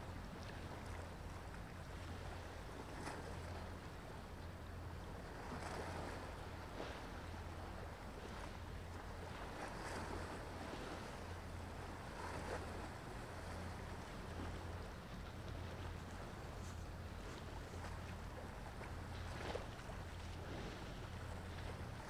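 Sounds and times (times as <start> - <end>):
small waves lapping and splashing: 0.0 - 22.0
steady low hum: 0.0 - 22.0
wind: 0.0 - 22.0.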